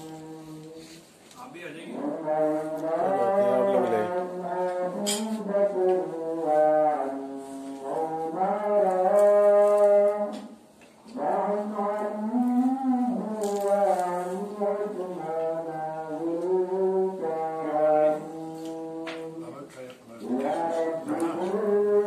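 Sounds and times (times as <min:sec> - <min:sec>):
man chanting a prayer: 0:00.0 - 0:10.5, 0:11.1 - 0:22.0.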